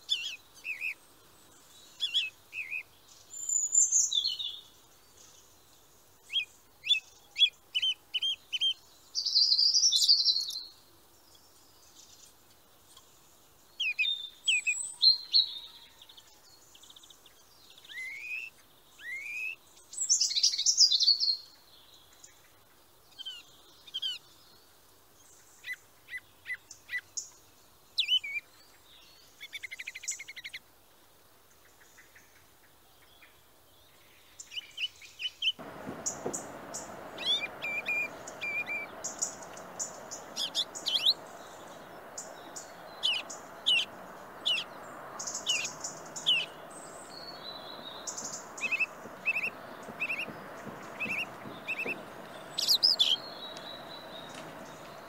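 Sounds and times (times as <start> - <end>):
small songbirds singing: 0.0 - 30.6, 33.0 - 55.0.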